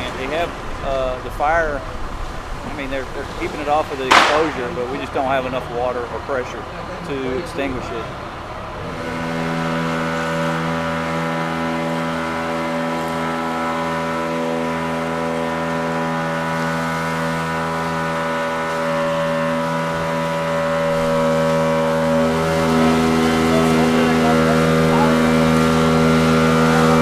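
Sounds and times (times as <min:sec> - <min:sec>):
boat engine running steadily: 0:00.0 - 0:27.0.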